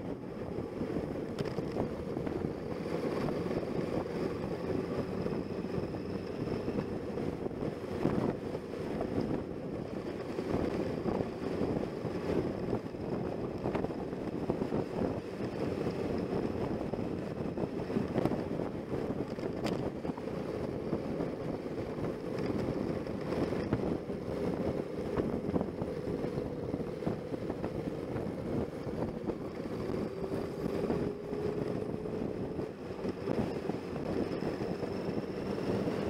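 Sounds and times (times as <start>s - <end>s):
heavy wind noise: 0.0s - 36.0s.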